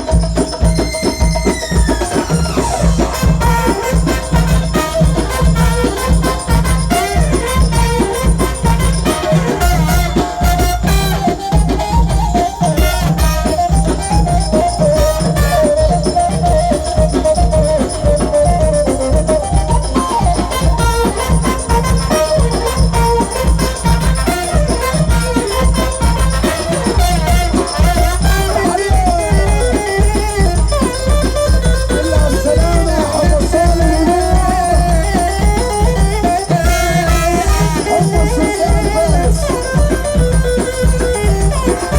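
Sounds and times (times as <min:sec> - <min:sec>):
shaken percussion: 0:00.0 - 0:41.9
wavering keyboard melody: 0:00.0 - 0:41.9
wedding dance music: 0:00.0 - 0:41.9.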